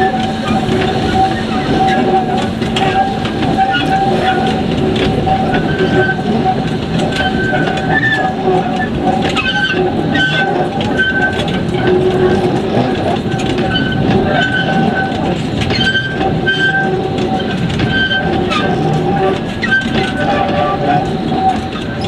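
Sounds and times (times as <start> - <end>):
railway wagons rolling past: 0.0 - 22.0
steel wheels clattering on track: 0.0 - 22.0
wheels squealing: 0.0 - 22.0.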